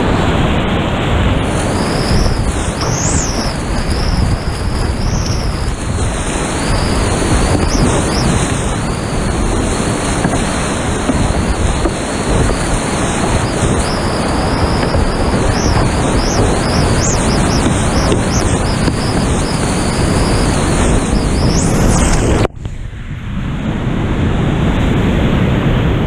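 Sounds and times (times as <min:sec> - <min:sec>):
whitewater rapids rushing: 0:01.1 - 0:22.5.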